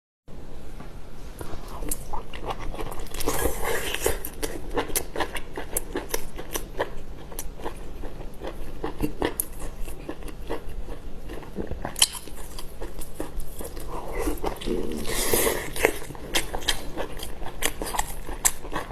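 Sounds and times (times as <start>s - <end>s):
crunchy chewing: 1.6s - 18.9s.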